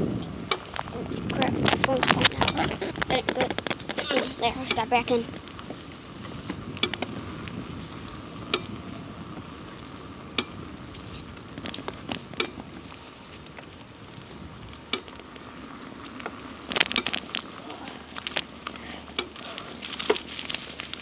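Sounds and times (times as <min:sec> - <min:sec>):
bicycle tyres on asphalt: 0:00.0 - 0:21.0
bike clicks and rattles: 0:00.0 - 0:21.0.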